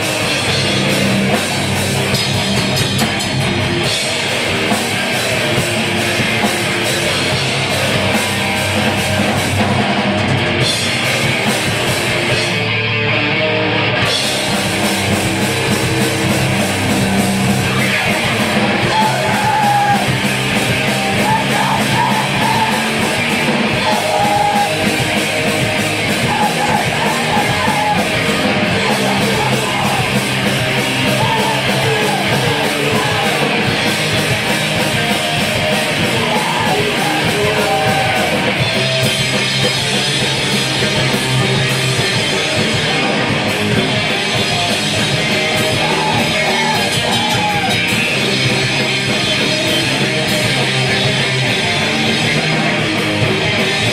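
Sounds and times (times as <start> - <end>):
hardcore band playing live: 0.0 - 53.9.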